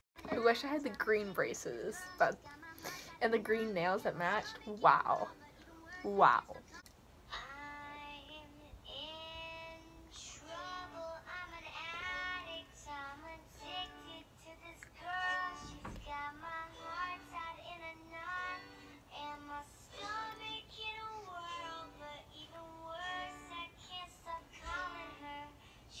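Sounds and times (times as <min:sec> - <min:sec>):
high-pitched singing voice: 0:00.2 - 0:26.0.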